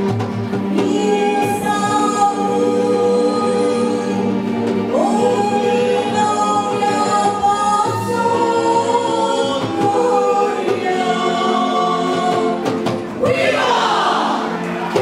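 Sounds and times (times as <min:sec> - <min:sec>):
instrumental accompaniment: 0:00.0 - 0:15.0
mixed choir singing: 0:00.7 - 0:15.0.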